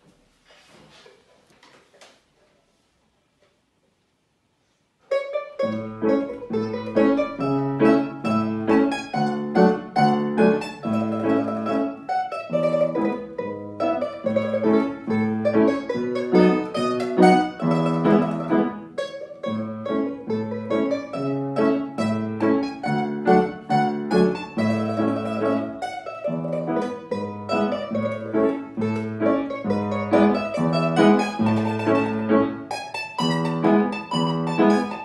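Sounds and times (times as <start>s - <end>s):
plucked string instrument: 5.0s - 35.0s
piano chords: 5.6s - 35.0s.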